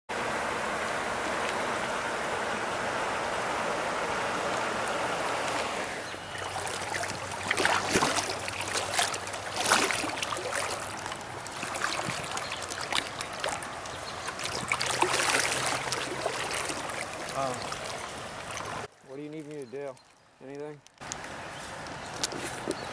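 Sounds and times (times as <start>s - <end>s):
river water rushing over rocks: 0.1s - 18.9s
water splashes and clicks: 0.9s - 1.7s, 4.4s - 22.9s.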